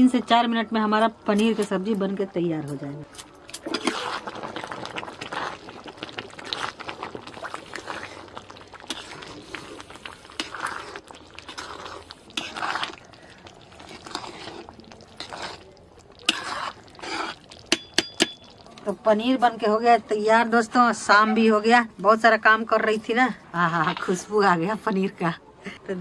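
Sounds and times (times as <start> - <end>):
gravy simmering in a pot: 0.1 - 21.9.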